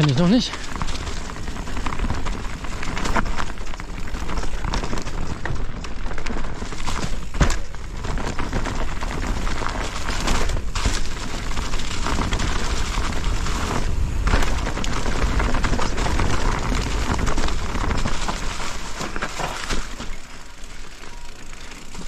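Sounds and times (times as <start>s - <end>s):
wind rumble on microphone: 0.0s - 19.8s
bike rattling and knocking: 0.0s - 22.0s
bike tyres rolling over dirt: 0.0s - 22.0s.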